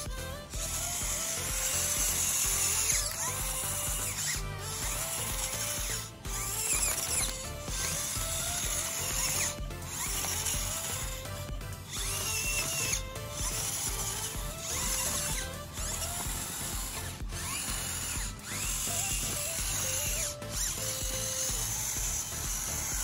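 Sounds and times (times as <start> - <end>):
background music: 0.0 - 23.0
electric motor whirring: 0.0 - 23.0.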